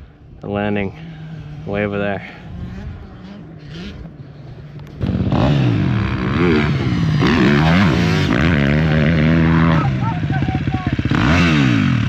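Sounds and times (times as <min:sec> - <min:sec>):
dirt bike engine revving: 0:00.8 - 0:12.0.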